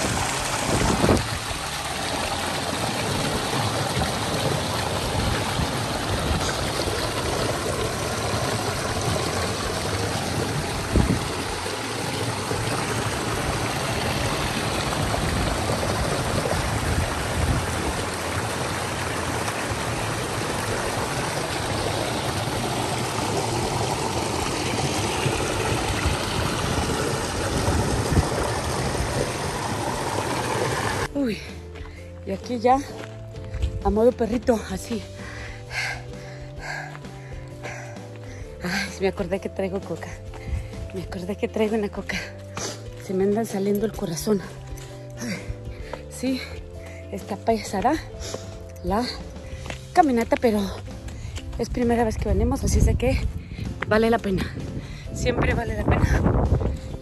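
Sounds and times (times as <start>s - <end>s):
water splashing over boulders: 0.0s - 31.2s, 34.3s - 52.8s.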